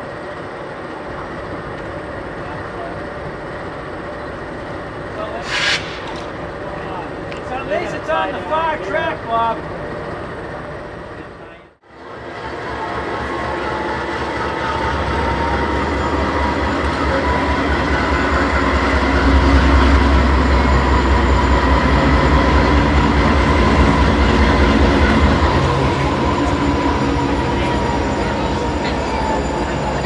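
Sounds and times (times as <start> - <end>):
diesel locomotive rumble: 0.0 - 30.0.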